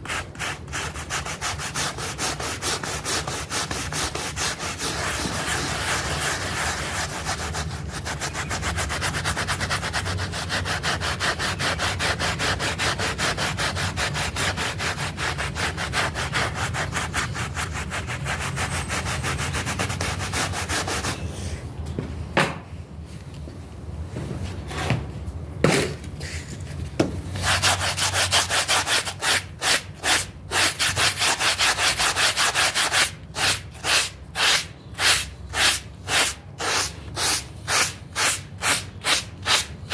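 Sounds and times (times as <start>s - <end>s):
brush scrubbing a rug: 0.0s - 21.0s, 27.4s - 39.7s.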